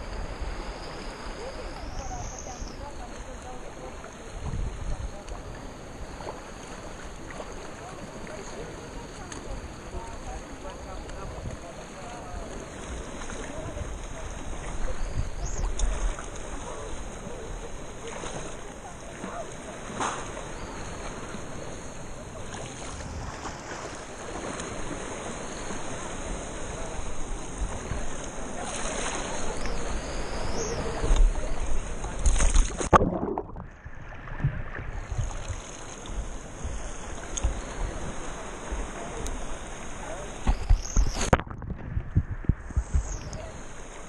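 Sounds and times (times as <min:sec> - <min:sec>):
sea water sloshing and splashing: 0:00.4 - 0:44.0.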